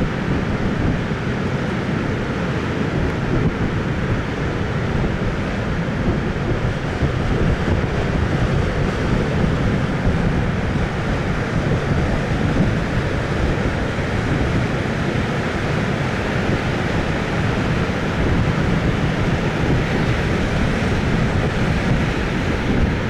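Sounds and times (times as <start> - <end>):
heavy surf breaking on rocks: 0.0 - 23.0
wind buffeting microphone: 0.0 - 23.0.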